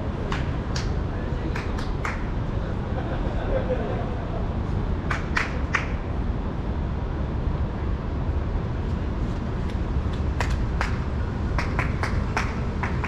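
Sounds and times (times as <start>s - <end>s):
low city street rumble: 0.0s - 13.0s.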